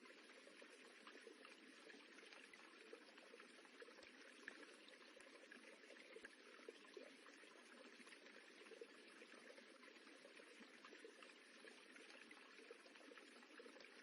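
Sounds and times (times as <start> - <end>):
running water babbling: 0.0 - 14.0.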